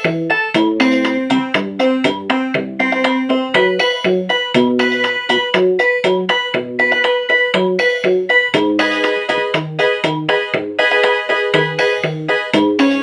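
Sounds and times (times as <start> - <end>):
keyboard bass and chord accompaniment: 0.0 - 13.0.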